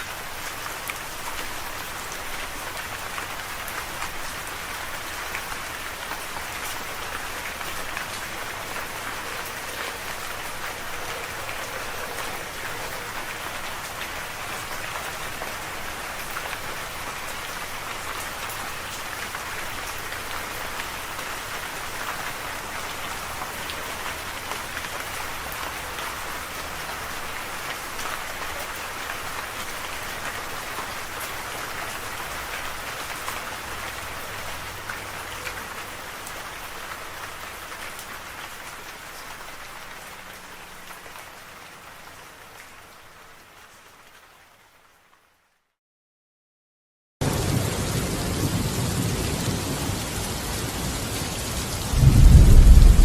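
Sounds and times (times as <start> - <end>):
steady rain falling: 0.0 - 45.7, 47.2 - 53.0.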